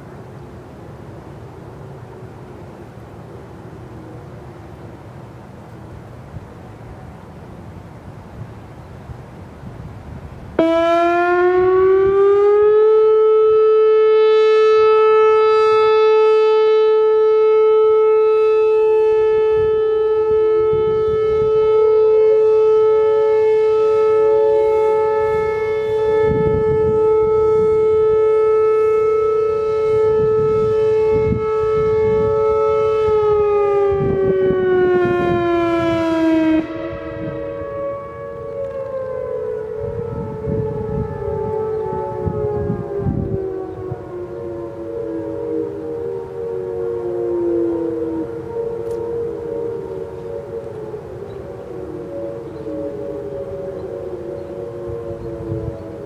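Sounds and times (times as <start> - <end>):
electronic warning siren: 9.6 - 56.0.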